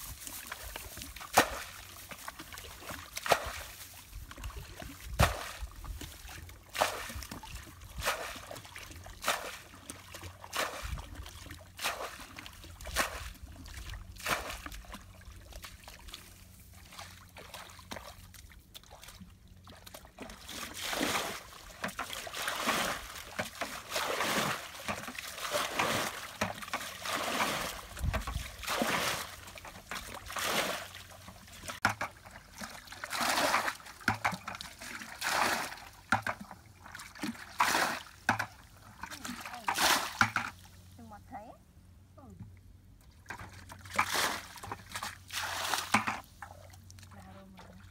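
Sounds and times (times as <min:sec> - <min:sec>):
water splashing from bucket: 0:00.0 - 0:40.7, 0:43.2 - 0:47.9.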